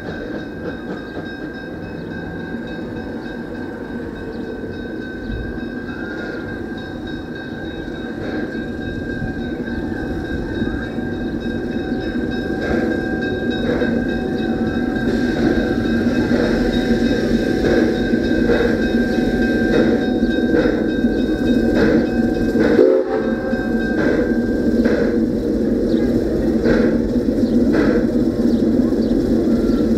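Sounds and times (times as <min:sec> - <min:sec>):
small steam train running: 0:00.0 - 0:29.9.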